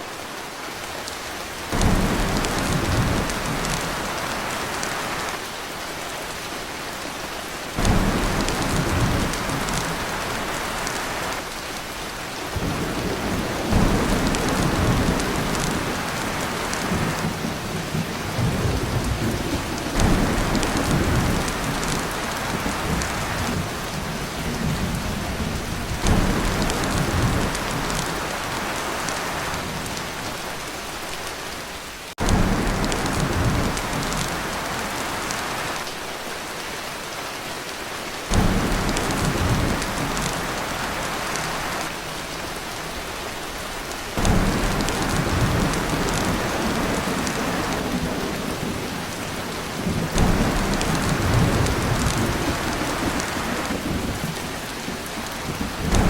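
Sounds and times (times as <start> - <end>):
heavy rain on a tin roof: 0.0 - 56.0
thunder rumbling: 1.7 - 5.2, 7.8 - 11.6, 12.4 - 30.6, 32.2 - 35.8, 38.3 - 42.4, 44.2 - 56.0.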